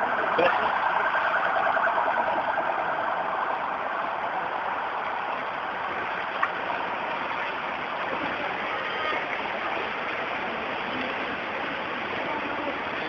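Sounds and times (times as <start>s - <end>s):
heavy rain: 0.0s - 13.0s
running flood water: 0.0s - 13.0s.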